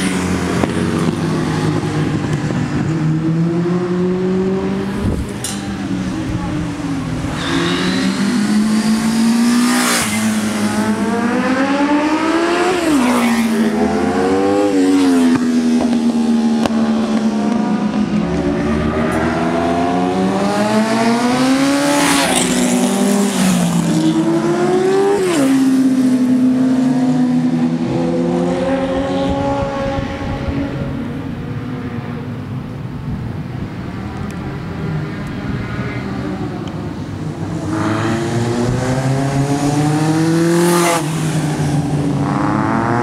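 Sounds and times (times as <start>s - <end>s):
racing motorcycles passing by: 0.0s - 43.0s.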